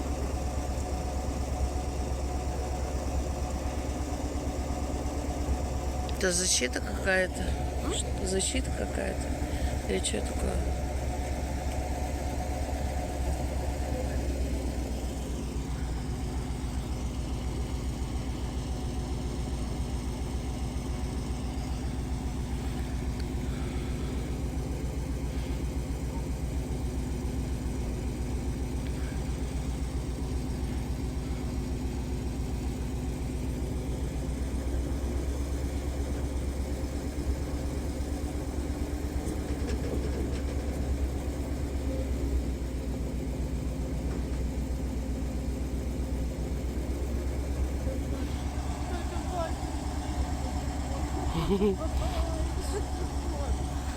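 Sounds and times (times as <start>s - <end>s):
truck engine idling: 0.0s - 53.9s.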